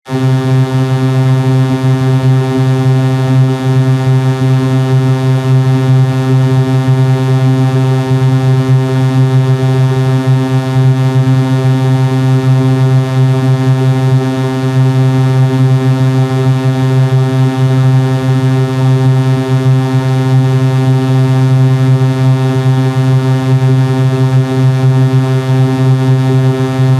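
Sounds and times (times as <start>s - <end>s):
buzzy low synthesizer tone: 0.1s - 26.9s.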